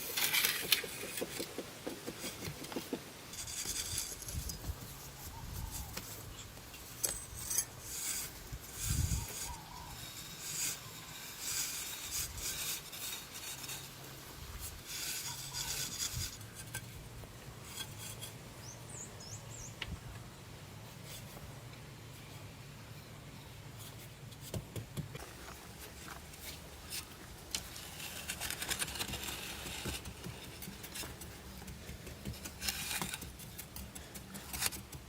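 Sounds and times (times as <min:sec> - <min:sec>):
rough scraping and rubbing: 0:00.0 - 0:19.7, 0:20.8 - 0:35.0.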